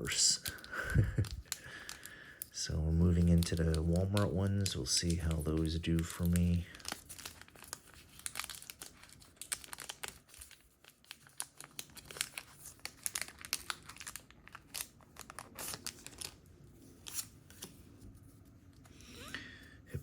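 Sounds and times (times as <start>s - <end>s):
card packaging crinkling and tearing: 0.0s - 18.8s.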